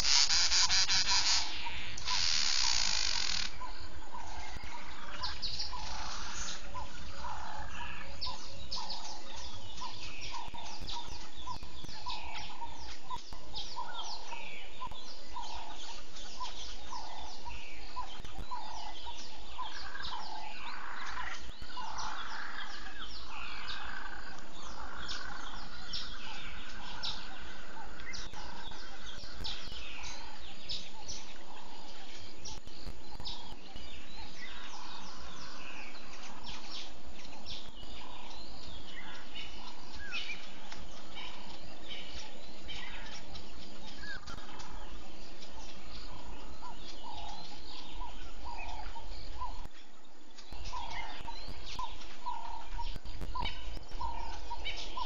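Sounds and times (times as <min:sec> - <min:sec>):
birds chirping and calling: 0:00.0 - 0:55.0
repeated bird call: 0:00.0 - 0:55.0.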